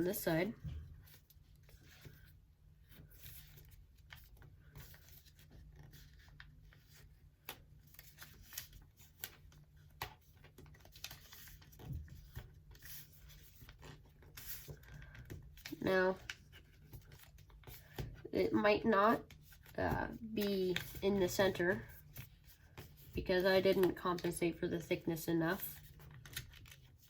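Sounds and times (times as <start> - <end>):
paper being folded and creased: 1.0 - 27.0.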